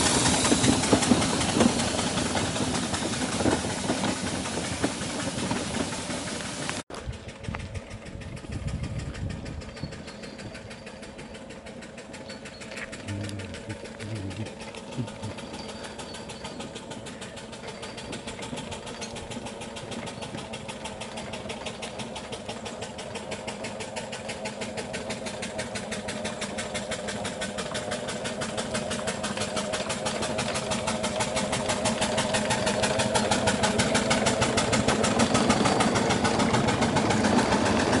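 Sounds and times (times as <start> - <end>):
steam engine rapid even beat: 0.0 - 38.0.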